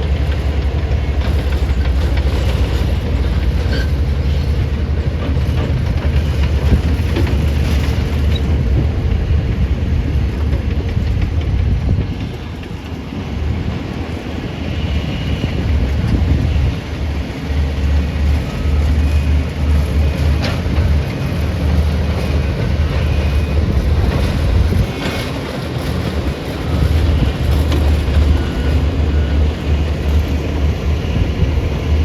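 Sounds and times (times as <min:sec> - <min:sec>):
excavator diesel engine droning: 0:00.0 - 0:32.0.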